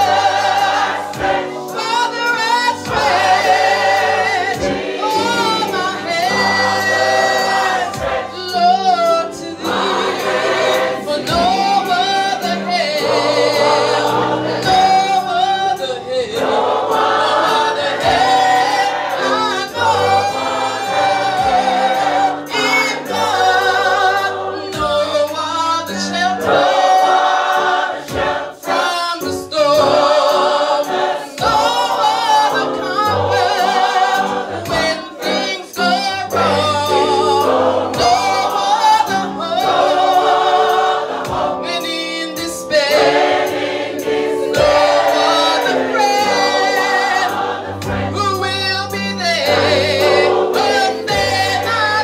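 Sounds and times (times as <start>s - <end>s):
choir singing in harmony: 0.0s - 52.0s.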